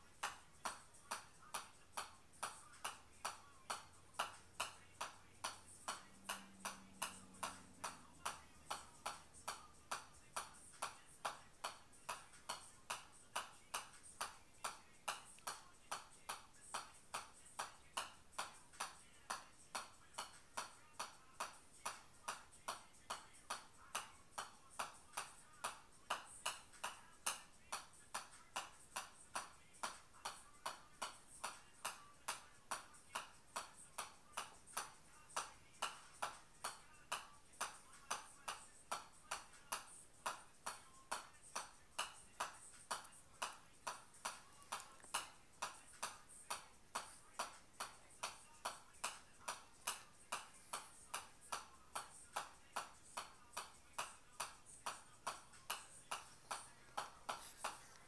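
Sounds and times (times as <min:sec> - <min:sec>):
golf ball tapping on club face: 0:00.2 - 0:58.0.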